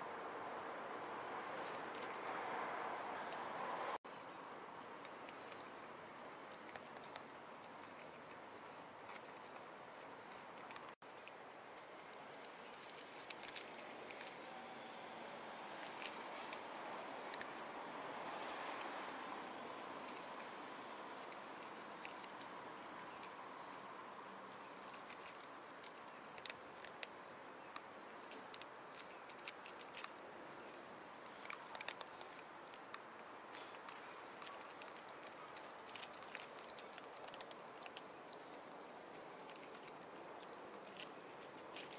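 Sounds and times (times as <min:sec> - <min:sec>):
kittens chewing and eating: 0:01.4 - 0:41.9.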